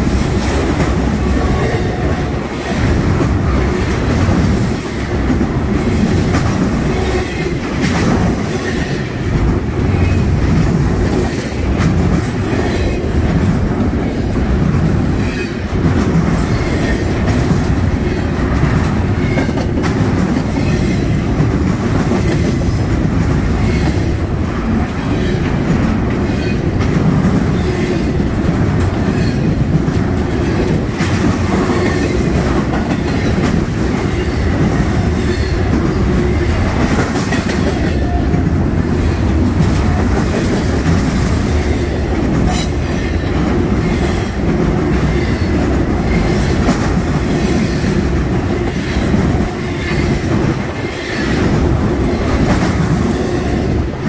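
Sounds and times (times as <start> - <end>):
freight train rolling past: 0.0 - 54.0
wheels clacking over rail joints: 0.0 - 54.0.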